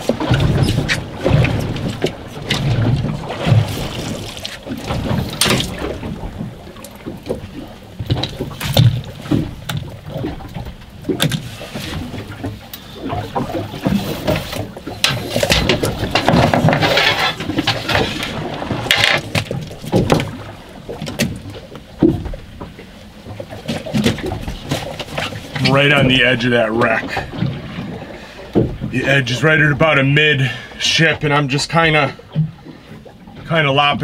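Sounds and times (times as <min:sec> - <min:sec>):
knocks and thuds on boat deck: 0:00.0 - 0:30.0.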